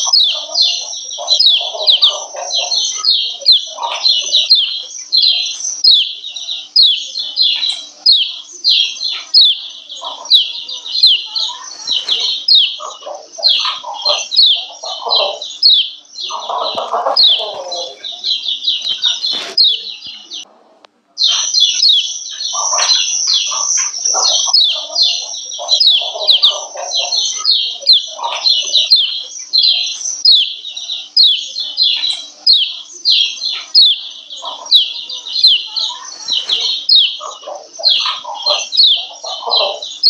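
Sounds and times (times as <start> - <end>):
bird chip calls: 0.0 - 20.5, 21.2 - 40.0
lower-pitched bird calls chattering: 0.0 - 20.5, 21.2 - 40.0.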